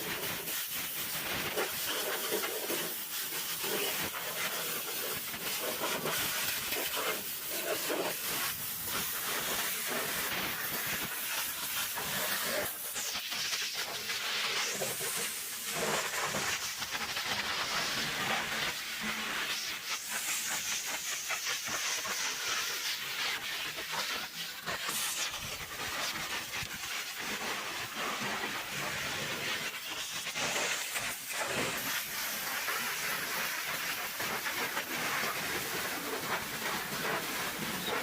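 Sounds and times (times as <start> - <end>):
pressure washer spray hissing: 0.0 - 38.0.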